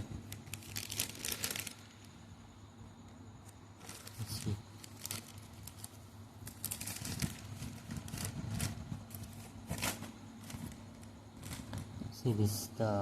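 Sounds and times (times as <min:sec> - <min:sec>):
plastic packaging crinkling: 0:00.0 - 0:02.2, 0:03.4 - 0:12.2
low steady hum: 0:00.0 - 0:13.0.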